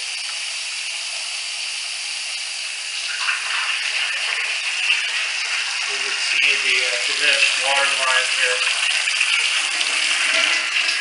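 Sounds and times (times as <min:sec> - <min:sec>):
faucet water running into sink: 0:00.0 - 0:11.0.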